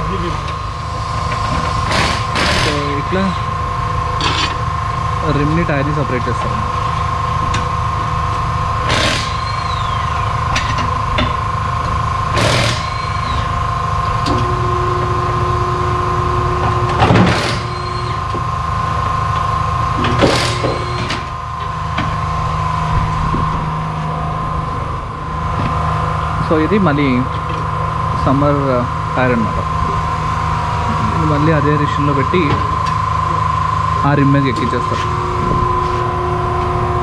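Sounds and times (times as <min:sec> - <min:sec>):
shop machinery hum: 0:00.0 - 0:37.0.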